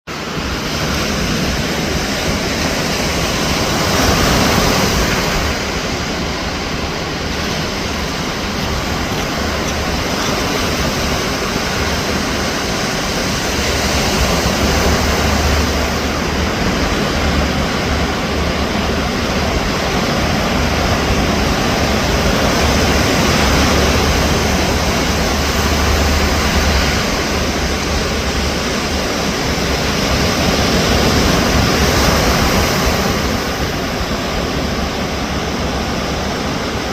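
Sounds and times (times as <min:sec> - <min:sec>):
ocean waves breaking: 0:00.1 - 0:36.9.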